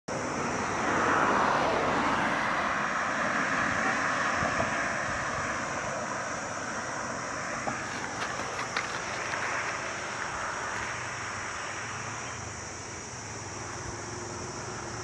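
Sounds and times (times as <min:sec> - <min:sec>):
road vehicle passing: 0:00.1 - 0:15.0.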